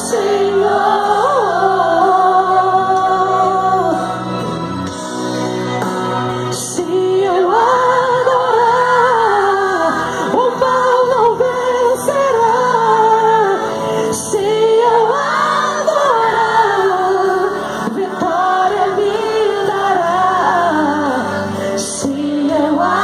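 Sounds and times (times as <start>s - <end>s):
congregation singing: 0.0s - 23.0s.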